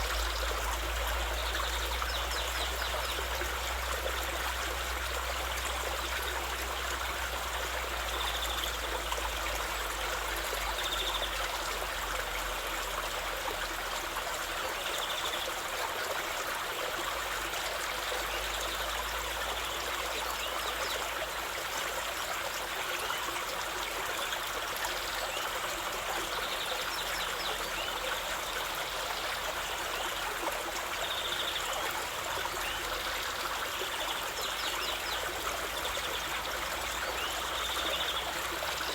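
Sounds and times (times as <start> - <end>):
flowing stream: 0.0 - 38.9.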